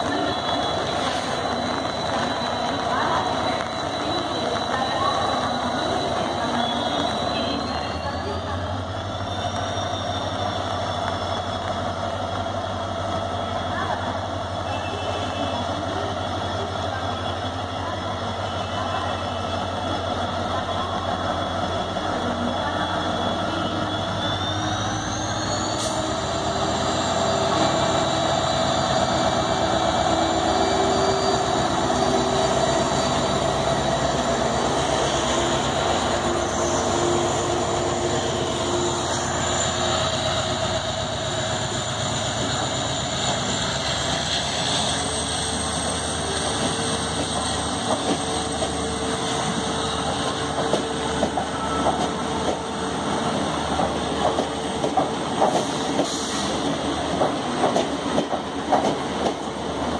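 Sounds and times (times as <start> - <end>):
diesel locomotive accelerating: 0.0 - 59.9.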